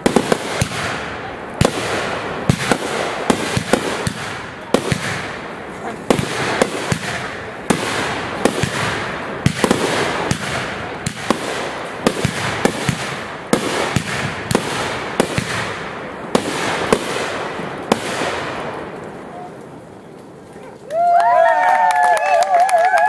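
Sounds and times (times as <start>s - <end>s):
fireworks bursting: 0.0s - 20.8s.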